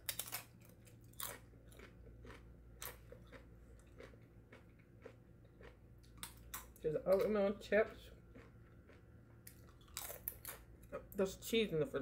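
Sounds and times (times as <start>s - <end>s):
tortilla chip crunching: 0.0s - 11.0s.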